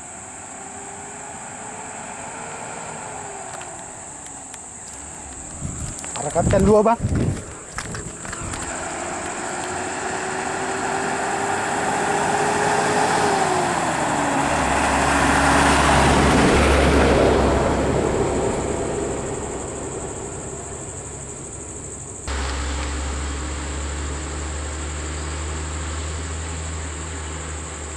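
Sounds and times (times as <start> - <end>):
vehicle driving past: 0.1 - 27.9.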